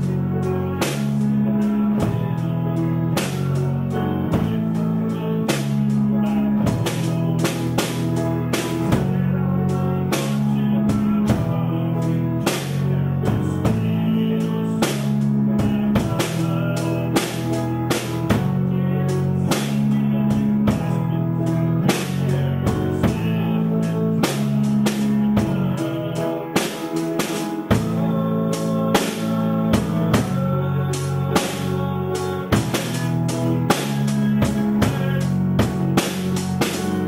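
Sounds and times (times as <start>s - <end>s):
drum hits: 0.0s - 21.2s, 21.8s - 37.0s
droning guitar chords: 0.0s - 37.0s
live band playing: 0.0s - 37.0s.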